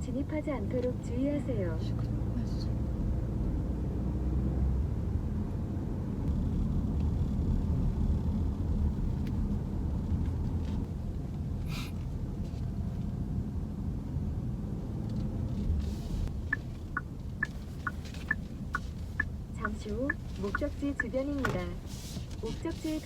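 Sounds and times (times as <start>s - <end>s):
road and tyre rumble: 0.0s - 23.0s.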